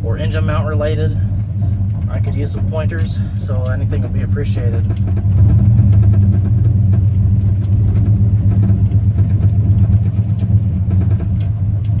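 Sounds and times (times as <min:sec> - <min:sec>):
engine running low hum: 0:00.0 - 0:12.0
faint clicks tapping: 0:01.3 - 0:12.0.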